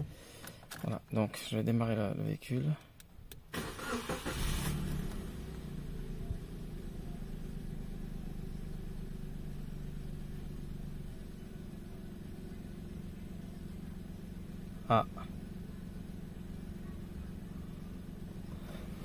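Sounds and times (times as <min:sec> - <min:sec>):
car engine idling: 0:03.2 - 0:19.0
car engine starting: 0:03.4 - 0:19.0.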